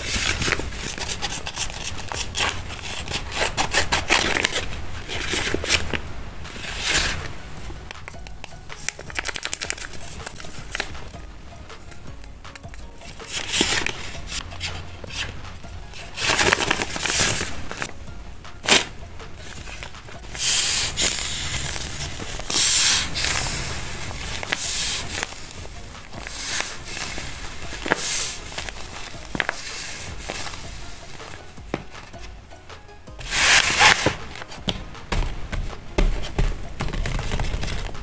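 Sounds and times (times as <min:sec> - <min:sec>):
paper and tape crinkling: 0:00.0 - 0:07.4, 0:08.0 - 0:11.1, 0:12.8 - 0:18.0, 0:18.6 - 0:32.4, 0:33.1 - 0:38.0.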